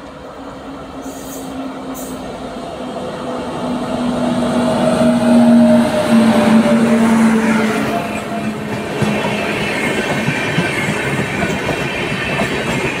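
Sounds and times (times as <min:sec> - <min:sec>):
electric locomotive hum: 0:00.0 - 0:13.0
wheels rumbling on rail: 0:00.0 - 0:13.0.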